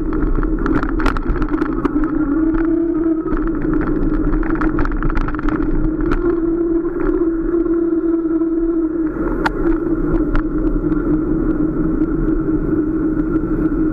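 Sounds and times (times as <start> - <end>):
bike clicks and rattles: 0.0 - 7.8, 9.0 - 13.9
electric bike motor: 0.0 - 13.9.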